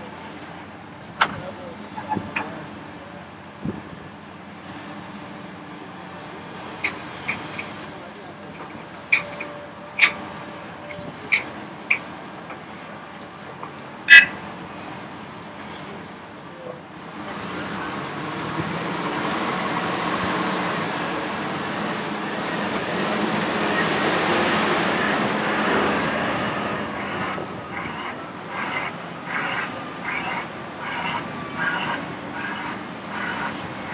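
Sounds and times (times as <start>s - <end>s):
dump truck driving: 0.0s - 33.9s
excavator engine and hydraulics: 0.0s - 33.9s.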